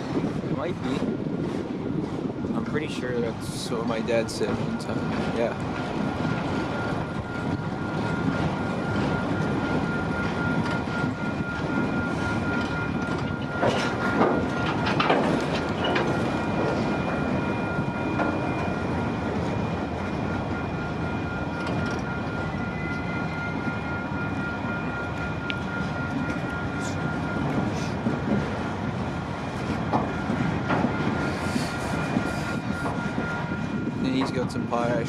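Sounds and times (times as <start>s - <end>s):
freight train cars rumbling: 0.0s - 35.0s
high whine from train wheels: 0.0s - 35.0s
train cars clanking: 0.0s - 35.0s.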